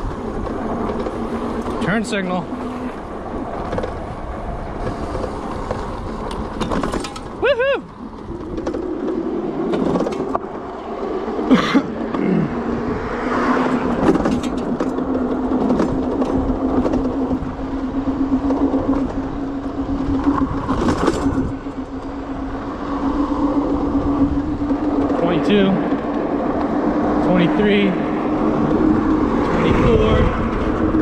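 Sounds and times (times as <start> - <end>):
electric bike motor whine: 0.0 - 31.0
wind buffeting microphone: 0.0 - 31.0.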